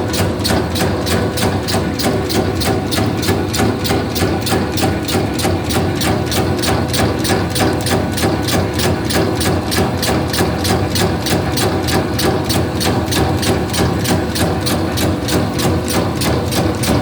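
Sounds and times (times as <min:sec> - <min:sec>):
machine mechanism clacking: 0:00.0 - 0:17.0.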